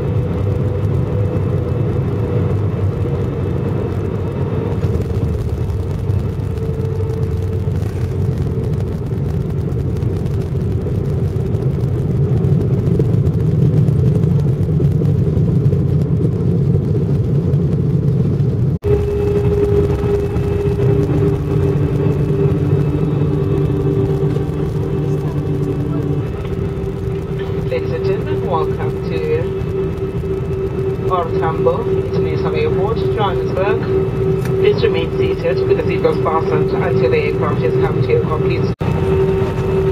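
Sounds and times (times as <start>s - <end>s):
humming engine tones: 0.0s - 39.9s
jet engines and wheels rumbling: 0.0s - 39.9s.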